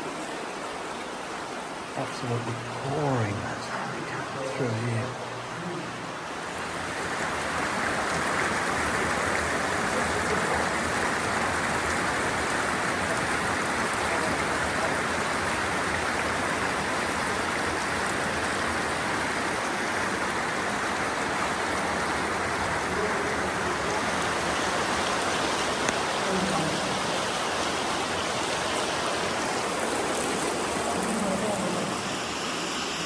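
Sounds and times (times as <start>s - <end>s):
water rushing through tunnel: 0.0s - 33.0s.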